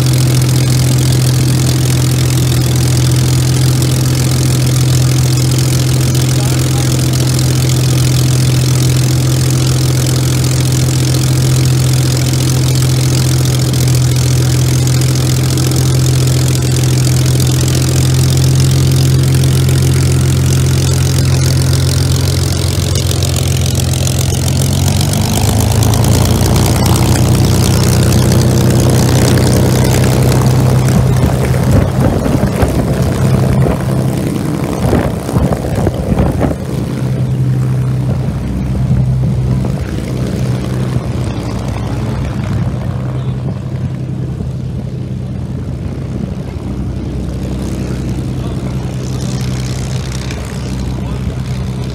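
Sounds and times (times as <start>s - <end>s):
aircraft engine idling and revving: 0.0s - 51.9s.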